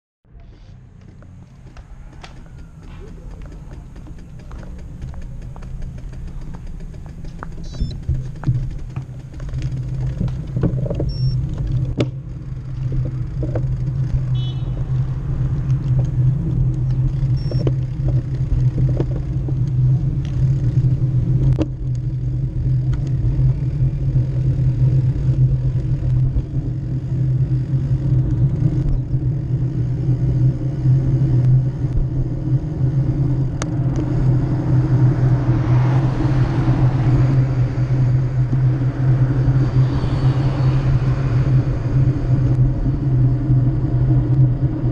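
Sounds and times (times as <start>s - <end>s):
bicycle tyres on asphalt: 0.3s - 44.9s
wind rumble on microphone: 1.1s - 44.9s.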